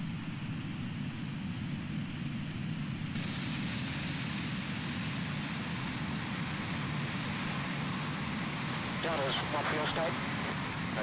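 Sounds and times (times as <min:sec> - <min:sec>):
jet engine drone: 0:00.0 - 0:11.0.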